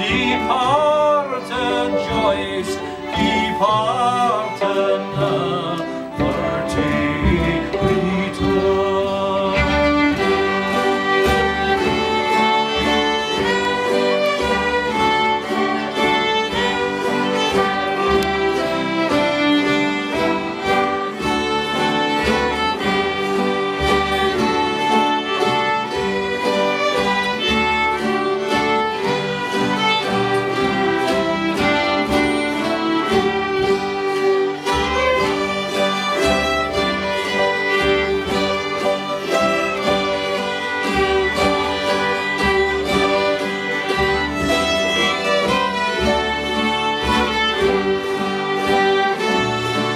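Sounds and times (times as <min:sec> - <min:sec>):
acoustic guitar strumming: 0:00.0 - 0:49.9
fiddles playing folk tune: 0:00.0 - 0:49.9.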